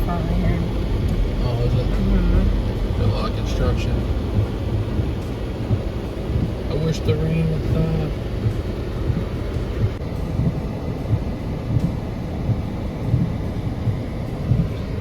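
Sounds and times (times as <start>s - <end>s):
low thumps: 0.0s - 14.8s
tyre noise on wet road: 0.0s - 15.0s.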